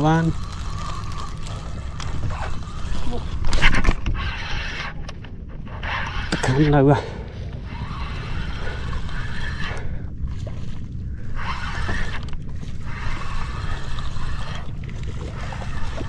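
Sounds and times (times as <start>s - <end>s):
fishing reel gears whirring: 0.0s - 16.0s
low rumble: 0.0s - 16.0s.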